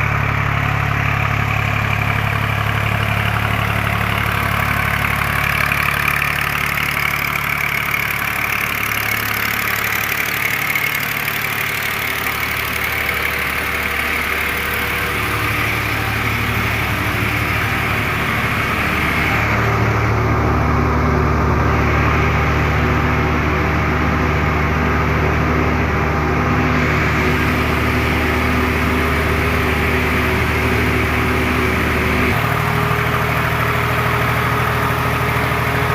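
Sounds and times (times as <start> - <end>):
feed mixer machine droning: 0.0 - 35.9.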